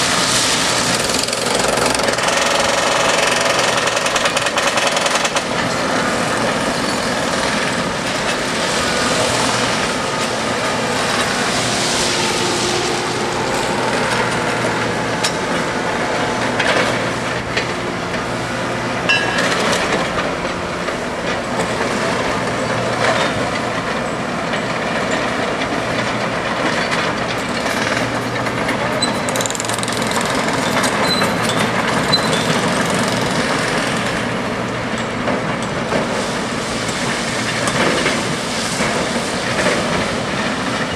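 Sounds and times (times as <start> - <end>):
diesel engines running: 0.0 - 40.9.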